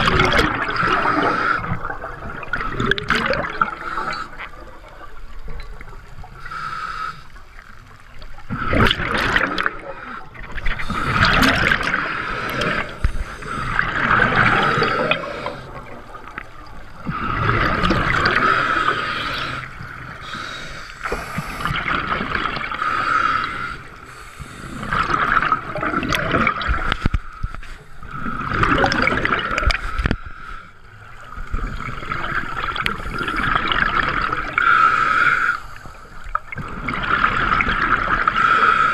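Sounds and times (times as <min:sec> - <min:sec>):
air bubbles gurgling underwater: 0:00.0 - 0:06.4, 0:07.9 - 0:20.4, 0:21.0 - 0:22.9, 0:24.7 - 0:30.2, 0:31.2 - 0:34.8, 0:36.1 - 0:38.7.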